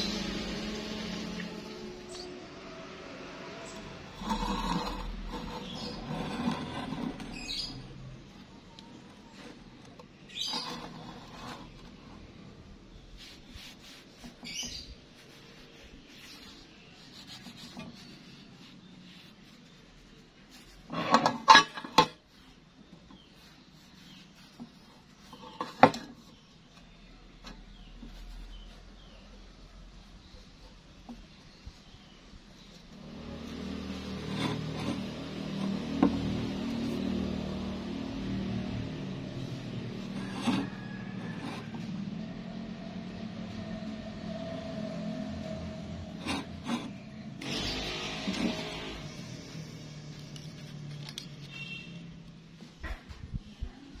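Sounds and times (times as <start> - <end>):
metal rubbing and scraping: 0.0 - 26.4, 27.3 - 54.0.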